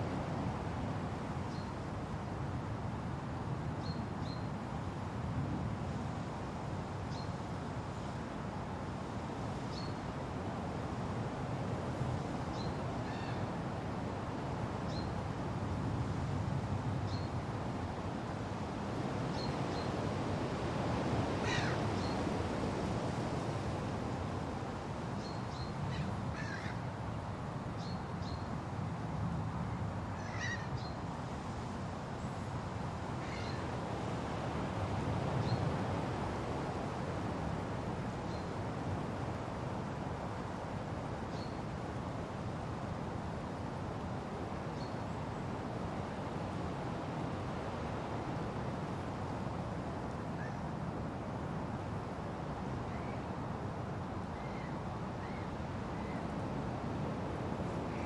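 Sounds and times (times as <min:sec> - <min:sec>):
wind rumbling through forest: 0:00.0 - 0:58.0.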